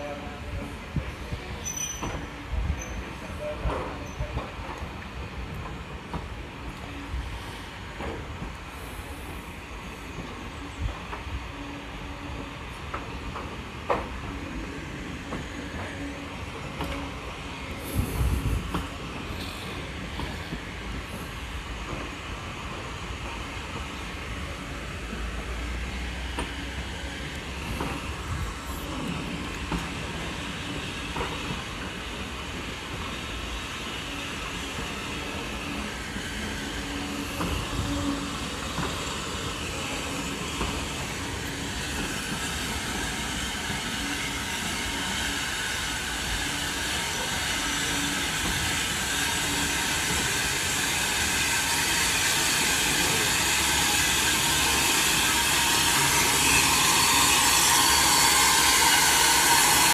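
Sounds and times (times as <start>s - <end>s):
steam locomotive hissing: 0.0s - 59.9s
train wheels clicking over rail joints: 1.6s - 6.9s, 7.9s - 11.4s, 12.7s - 24.2s, 25.0s - 59.9s.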